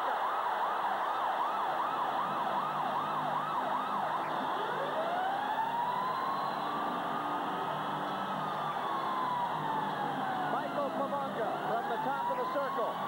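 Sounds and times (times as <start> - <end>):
crowd cheering: 0.0 - 13.0
goal siren whooping and wailing: 0.0 - 13.0.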